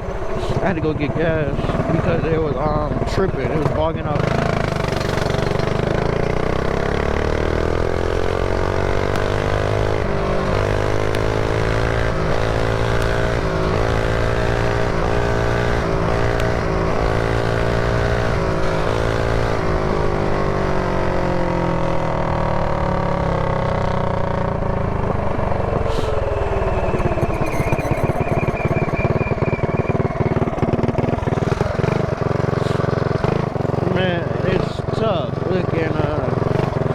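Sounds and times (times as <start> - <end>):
motorbike engine revving: 0.0 - 36.9.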